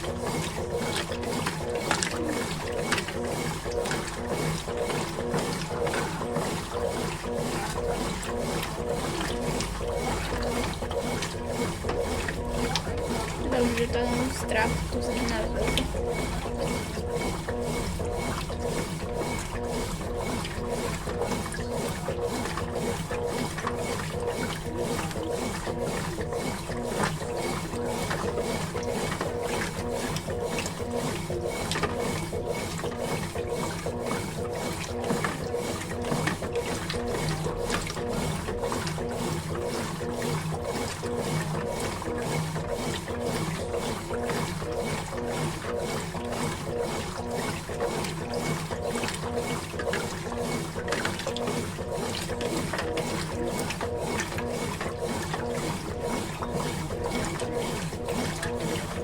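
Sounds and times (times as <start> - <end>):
washing machine motor hum: 0.0 - 59.0
water churning: 0.0 - 59.0.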